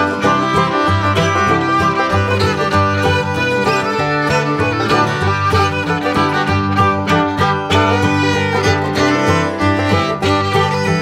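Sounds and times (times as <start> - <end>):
fiddle music with steady beat: 0.0 - 11.0.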